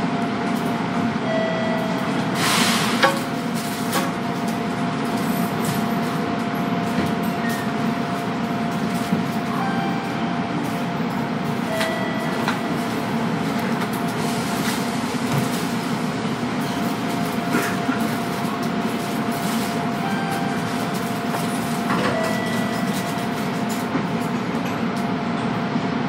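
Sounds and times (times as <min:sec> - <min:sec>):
train cabin hum: 0:00.0 - 0:26.0
constant whine: 0:03.0 - 0:25.7.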